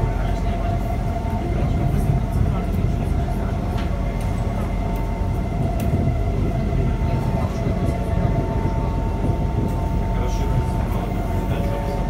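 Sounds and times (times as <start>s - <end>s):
steady whine: 0.0s - 12.0s
wheels rumbling on rails: 0.0s - 12.0s.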